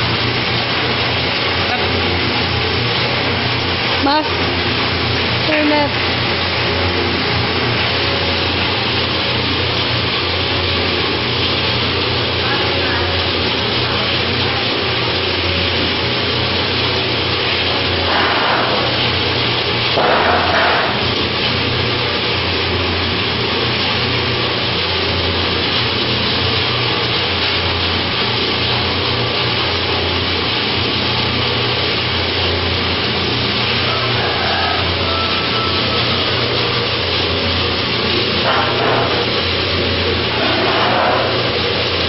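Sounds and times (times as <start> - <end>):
motor hum: 0.0 - 42.0.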